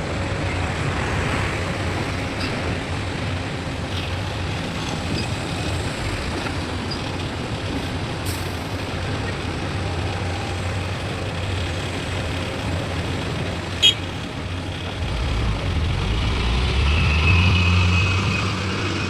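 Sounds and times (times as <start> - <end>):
heavy truck engine drone: 0.0 - 19.0
road and traffic noise: 0.0 - 19.0.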